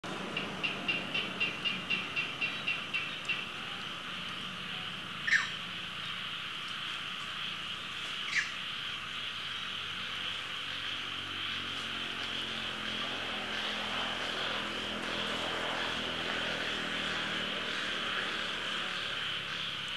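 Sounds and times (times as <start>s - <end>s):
high-pitched insect chorus: 0.1s - 19.9s.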